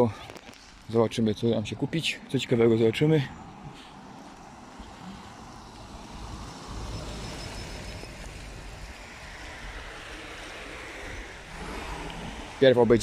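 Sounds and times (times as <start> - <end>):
cars driving by: 1.8 - 13.0.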